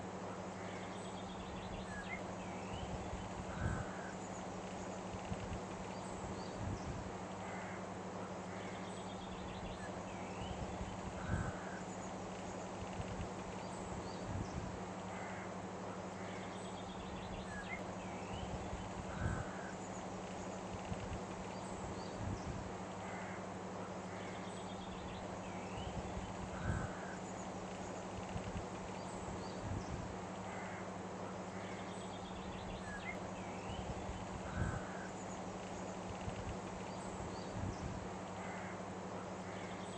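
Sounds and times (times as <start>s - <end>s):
low background hum: 0.0s - 39.9s
bird calls and chirps: 0.6s - 39.9s.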